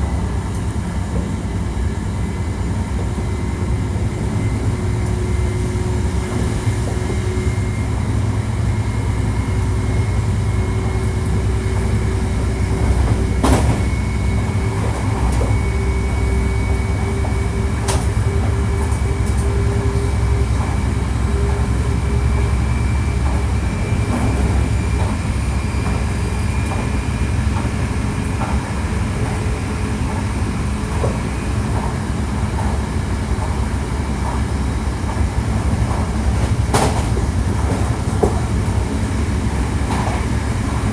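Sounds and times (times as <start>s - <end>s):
inverter and motor whine: 0.0s - 40.9s
train wheels rumbling on track: 0.0s - 40.9s.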